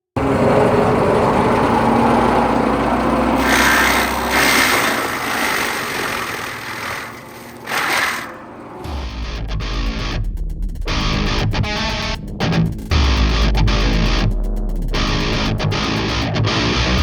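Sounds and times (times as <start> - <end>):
engine-driven machinery running: 0.2 - 16.3.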